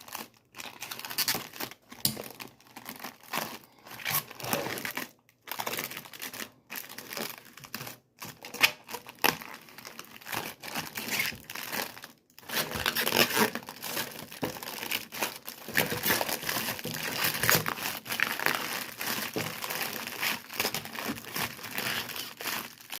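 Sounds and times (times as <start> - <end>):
crinkling and crackling: 0.0 - 23.0.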